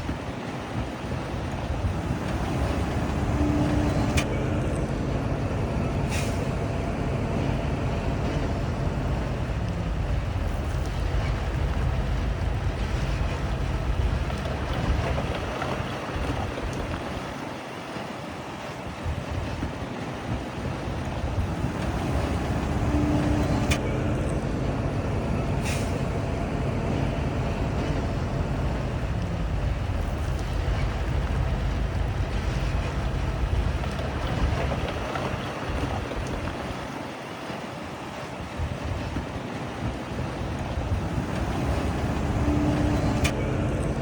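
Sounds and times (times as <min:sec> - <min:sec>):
heavy diesel engine rumbling: 0:00.0 - 0:44.0.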